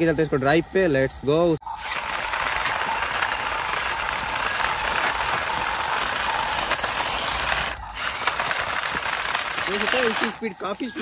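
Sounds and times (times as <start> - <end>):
toy electric motor whine: 1.6 - 11.0
wheels hissing on asphalt: 1.7 - 11.0.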